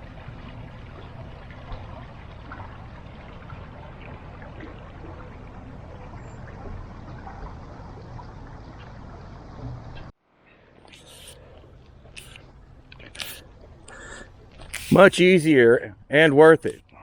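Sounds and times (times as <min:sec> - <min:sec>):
water pouring and trickling: 0:00.0 - 0:15.1.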